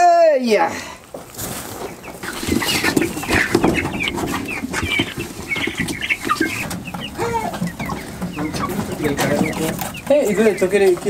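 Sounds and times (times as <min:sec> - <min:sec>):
young chickens clucking and chirping: 0:00.0 - 0:11.0
rustling and knocking from handling: 0:01.2 - 0:10.1.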